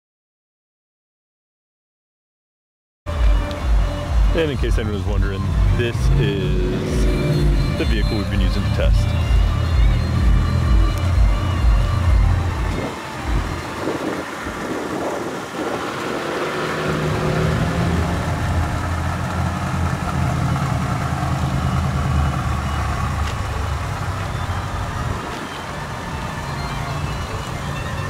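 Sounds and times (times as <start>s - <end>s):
car engine idling: 3.1s - 28.0s.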